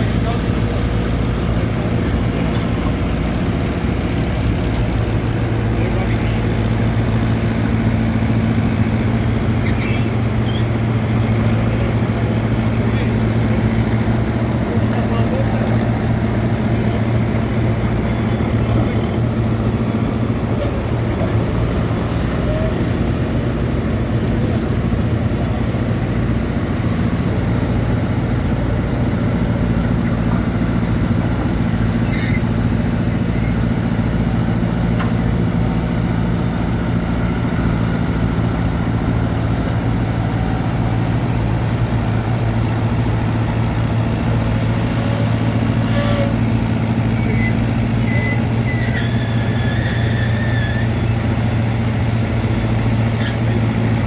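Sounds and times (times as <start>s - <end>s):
excavator engine humming: 0.0s - 54.0s.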